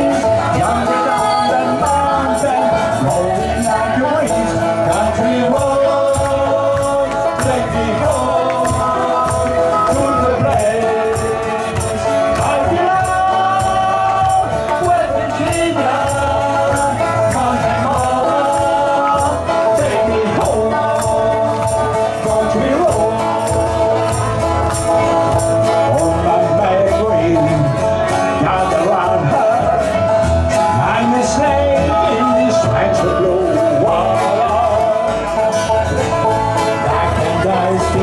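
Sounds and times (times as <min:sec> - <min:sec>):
bluegrass band playing: 0:00.0 - 0:38.0
harmony singing: 0:00.0 - 0:38.0
man singing lead: 0:00.0 - 0:38.0.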